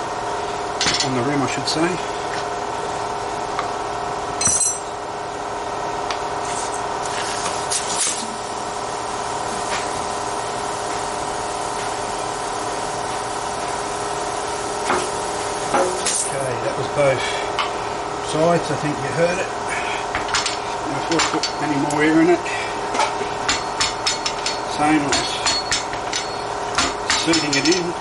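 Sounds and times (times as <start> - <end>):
air compressor running: 0.0 - 28.0.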